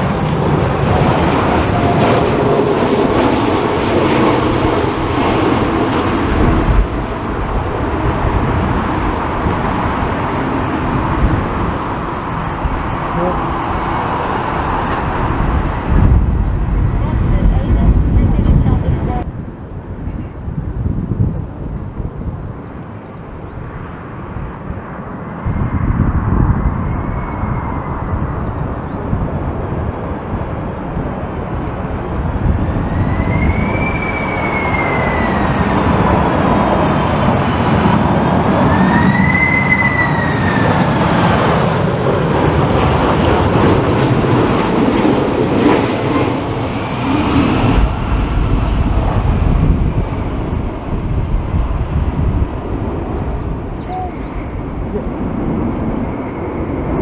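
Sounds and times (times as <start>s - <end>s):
high jet engine whine: 0.0s - 57.0s
jet engines rumbling: 0.0s - 57.0s.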